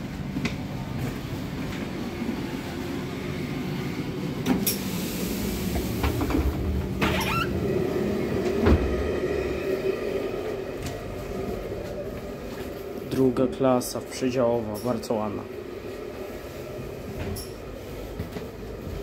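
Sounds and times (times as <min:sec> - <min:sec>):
train coach rumble and hum: 0:00.0 - 0:19.0.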